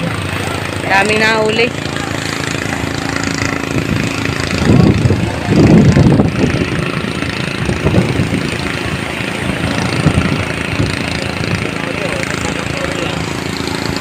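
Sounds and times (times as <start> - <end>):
boat engine running: 0.0 - 14.0
wind buffeting microphone: 0.0 - 14.0.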